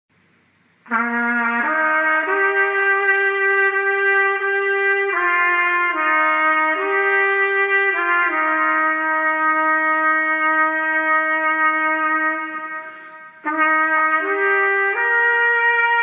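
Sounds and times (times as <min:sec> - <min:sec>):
solo trumpet slow melody: 0:00.2 - 0:16.0.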